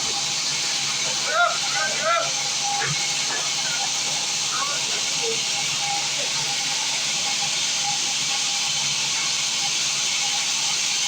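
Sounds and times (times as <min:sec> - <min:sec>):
sawmill machinery hiss: 0:00.0 - 0:11.0.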